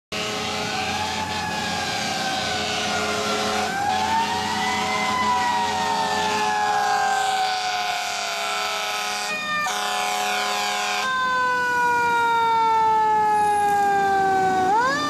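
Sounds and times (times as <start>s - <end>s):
emergency siren wailing: 0.1s - 15.0s
street traffic: 0.1s - 15.0s.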